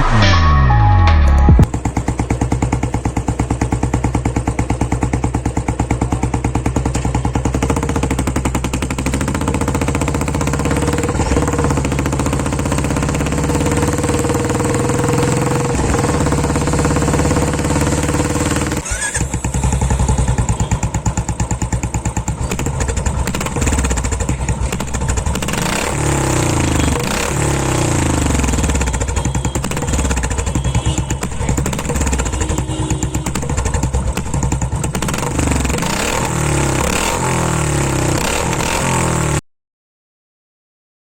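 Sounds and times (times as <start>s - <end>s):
motorcycle engine idling and revving: 1.4s - 39.4s.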